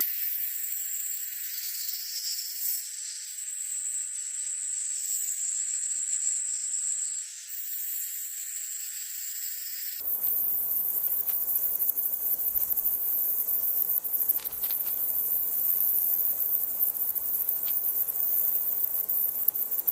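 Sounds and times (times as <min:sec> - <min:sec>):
high insect trill: 0:00.0 - 0:19.9
insect chorus: 0:00.0 - 0:19.9.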